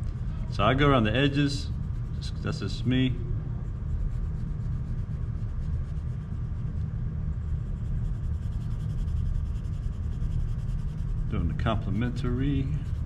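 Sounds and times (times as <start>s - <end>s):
coloured pencil scratching on paper: 1.2s - 2.8s, 3.7s - 13.0s.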